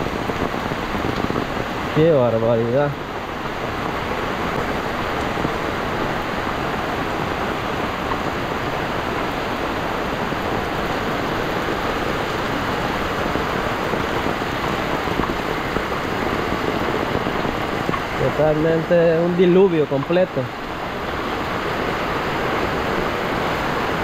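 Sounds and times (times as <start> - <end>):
floodwater rushing down road: 0.0 - 24.0
heavy rain pouring: 0.0 - 24.0.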